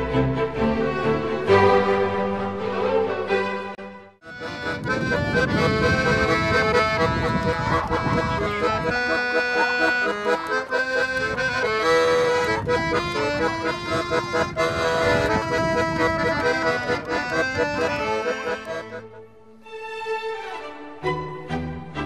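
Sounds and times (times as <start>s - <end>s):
instrumental music: 0.0s - 22.0s.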